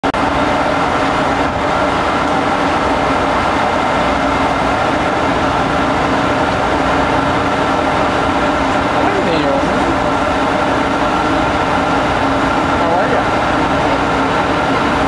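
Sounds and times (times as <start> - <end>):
ship machinery droning: 0.0 - 15.0.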